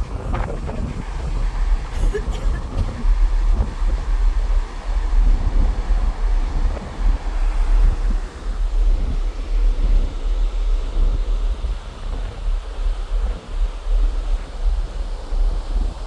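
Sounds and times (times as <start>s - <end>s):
sea waves washing: 0.0s - 13.8s
wind buffeting microphone: 0.0s - 16.0s.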